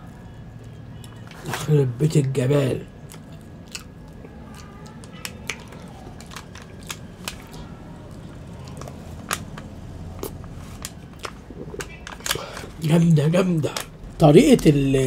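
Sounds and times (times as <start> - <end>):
person chewing food: 0.0 - 1.6, 2.2 - 13.0
low steady hum: 0.0 - 15.0.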